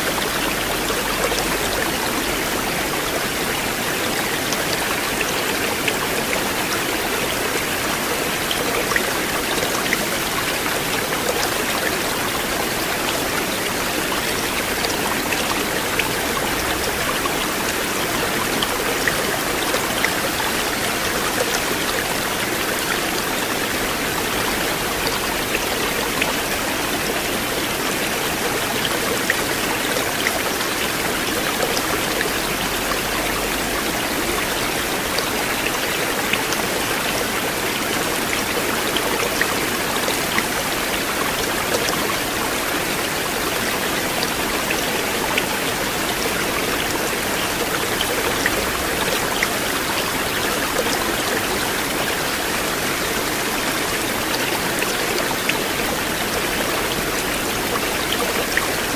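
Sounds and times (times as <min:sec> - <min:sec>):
river water flowing: 0:00.0 - 0:58.9
water splashes and drips: 0:00.0 - 0:58.9.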